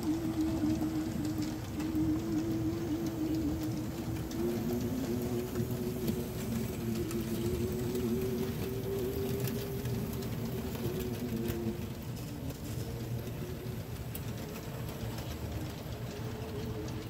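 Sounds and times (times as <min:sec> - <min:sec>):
humming tone: 0:00.0 - 0:17.0
model train rumbling on track: 0:00.0 - 0:17.0
wheels clicking: 0:00.0 - 0:17.0.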